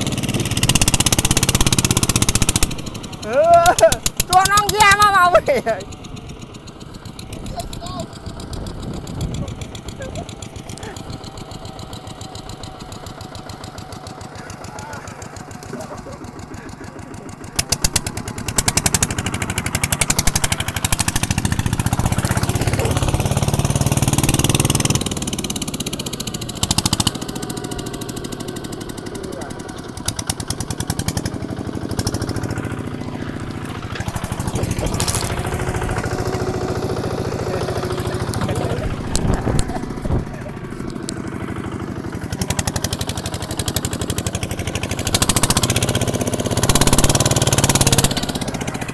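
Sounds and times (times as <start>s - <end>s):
diesel tractor engine chattering: 0.0s - 48.9s.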